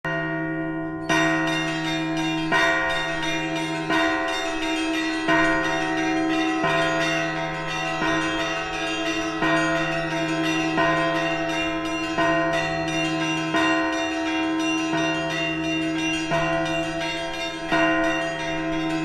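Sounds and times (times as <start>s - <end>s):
low church bell tolling: 0.1s - 19.0s
small high bells ringing: 1.0s - 19.0s.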